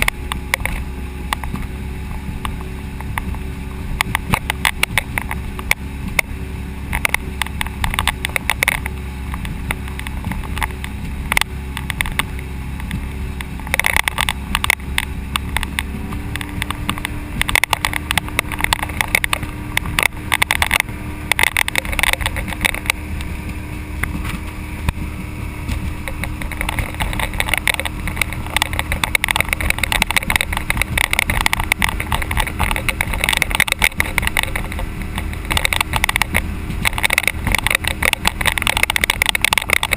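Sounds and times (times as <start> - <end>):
boat engine drone: 0.0 - 39.9
wind buffeting microphone: 0.0 - 39.9.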